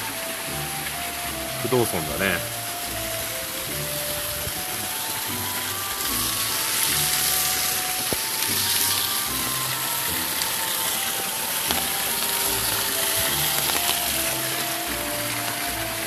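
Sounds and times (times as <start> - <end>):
rushing water hiss: 0.0 - 16.0
simple background melody: 0.0 - 16.0.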